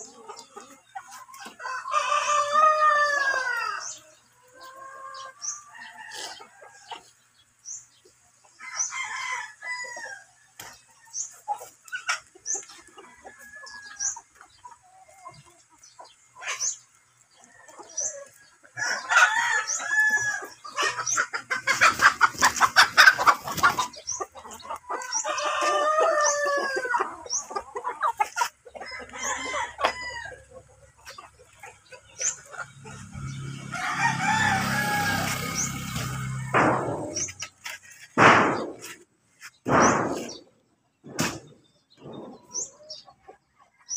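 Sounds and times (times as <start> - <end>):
roosters crowing: 0.0 - 7.3, 8.4 - 15.4, 16.0 - 39.0
hens clucking: 0.0 - 43.9.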